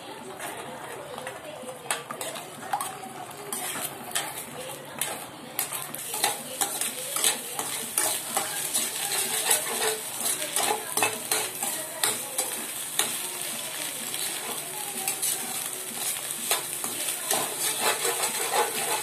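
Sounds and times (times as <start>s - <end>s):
eggs sizzling in frying pan: 0.0s - 19.0s
spatula scraping and tapping pan: 0.2s - 19.0s.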